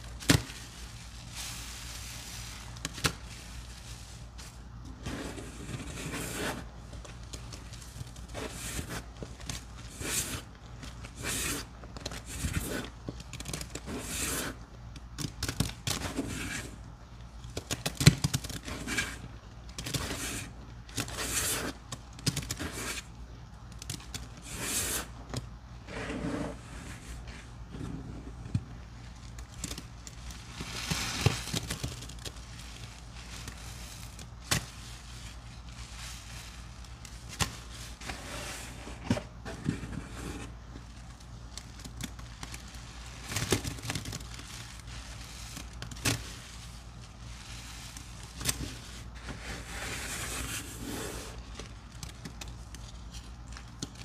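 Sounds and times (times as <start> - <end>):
wet sponge squishing: 0.0 - 25.2, 28.6 - 39.1, 40.1 - 54.0.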